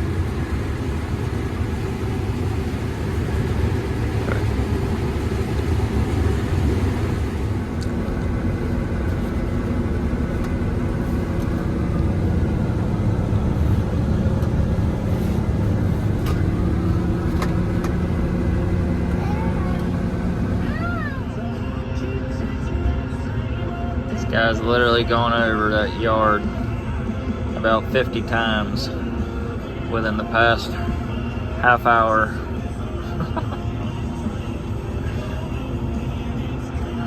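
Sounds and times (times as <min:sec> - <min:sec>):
combine harvester engine drone: 0:00.0 - 0:37.0.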